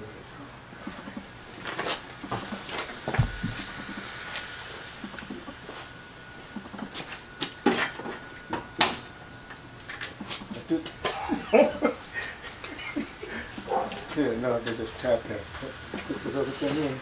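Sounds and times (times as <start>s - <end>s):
low voices: 0.0s - 17.0s.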